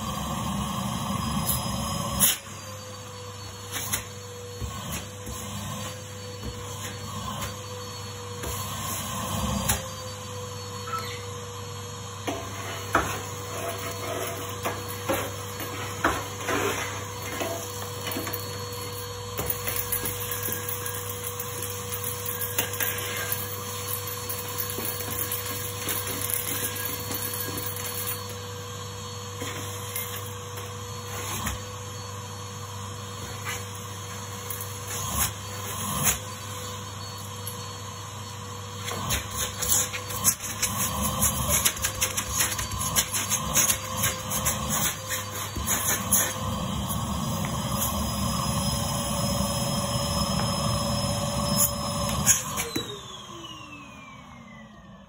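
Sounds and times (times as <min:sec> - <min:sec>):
vacuum cleaner motor hum: 0:00.0 - 0:55.0.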